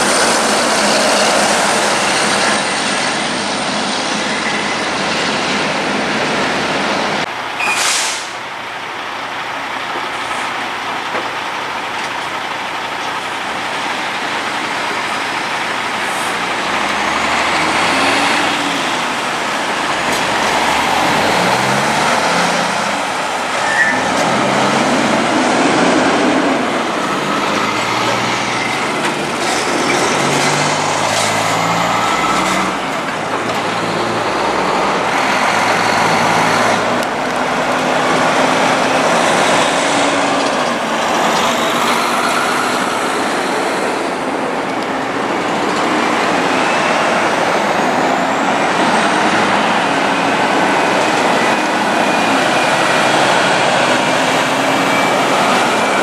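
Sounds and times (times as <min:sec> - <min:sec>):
heavy diesel trucks passing: 0:00.0 - 0:56.0.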